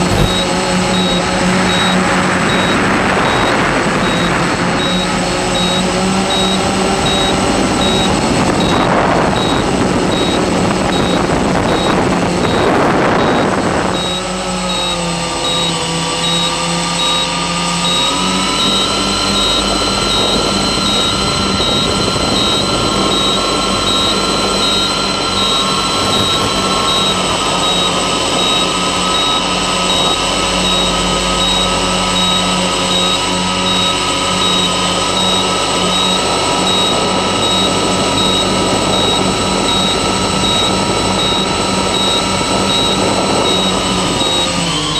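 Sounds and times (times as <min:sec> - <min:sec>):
wind noise: 0:00.0 - 0:14.8, 0:18.0 - 0:33.3, 0:34.2 - 0:44.8
drone propellers whirring: 0:00.0 - 0:44.9.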